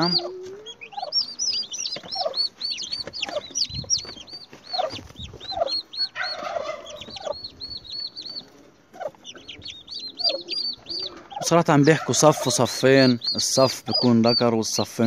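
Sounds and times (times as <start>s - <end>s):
poults peeping: 0.0s - 15.0s
turkey hen clucking: 0.0s - 15.0s.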